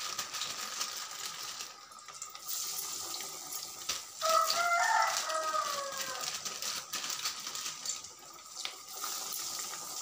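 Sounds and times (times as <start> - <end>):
deep-frying sizzle: 0.0 - 10.0.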